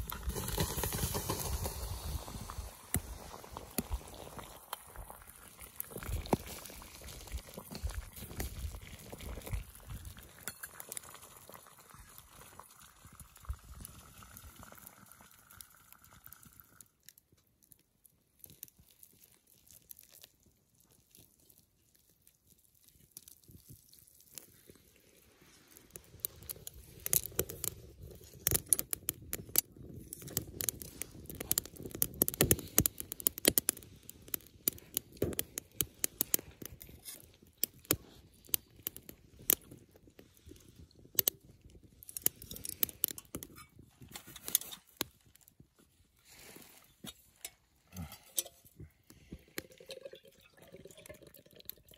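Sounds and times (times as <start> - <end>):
water boiling in metal pot: 0.0 - 51.9.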